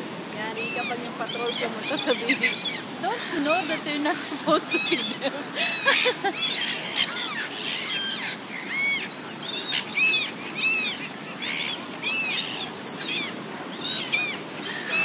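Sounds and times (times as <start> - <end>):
gulls squawking: 0.5 - 15.0.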